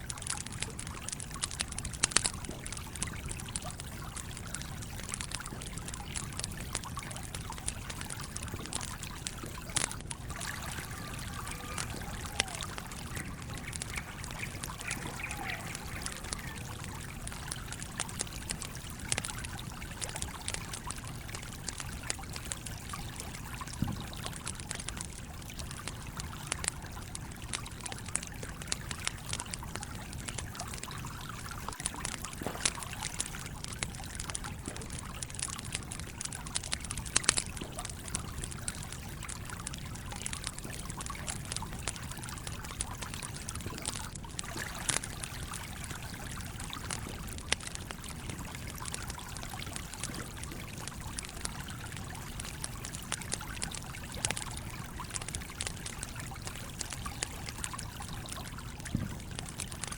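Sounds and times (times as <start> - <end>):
campfire crackling and popping: 0.0 - 59.9
stream water flowing: 0.0 - 59.9.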